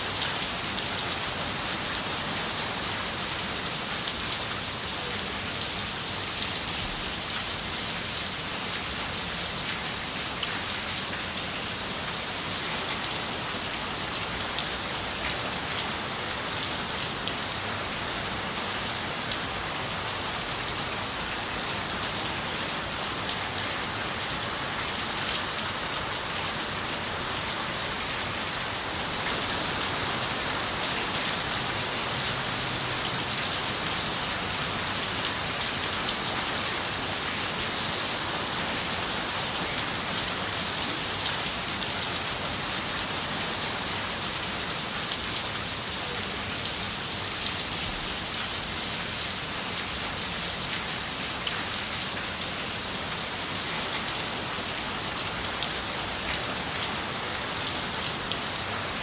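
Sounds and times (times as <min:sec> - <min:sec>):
rain on a window: 0:00.1 - 0:59.0.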